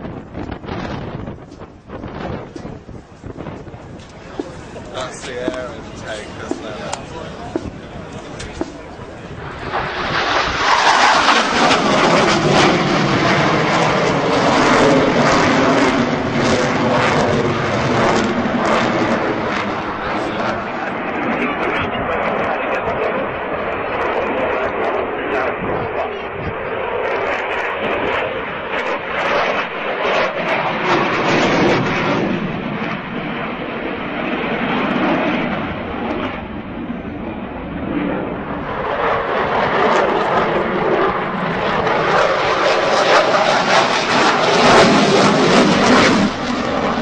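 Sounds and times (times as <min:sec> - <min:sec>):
jet passing overhead: 0:00.0 - 0:47.0.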